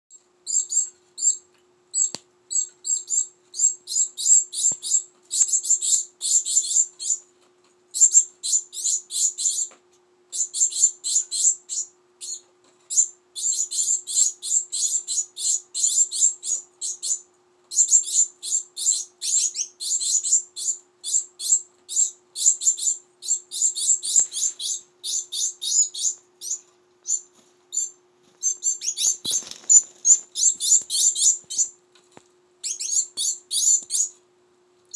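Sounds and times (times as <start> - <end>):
young finches chirping rapidly: 0.5 - 7.2, 8.0 - 9.7, 10.3 - 31.7, 32.6 - 34.1.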